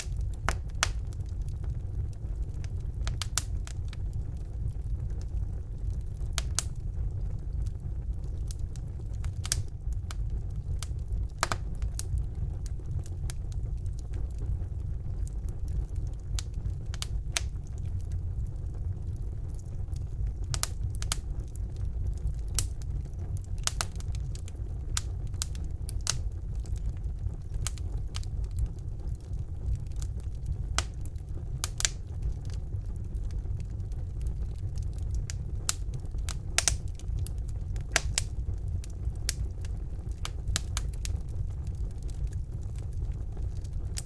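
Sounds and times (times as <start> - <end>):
fire flames rumbling: 0.0 - 44.0
wood fire crackling and popping: 0.0 - 44.0.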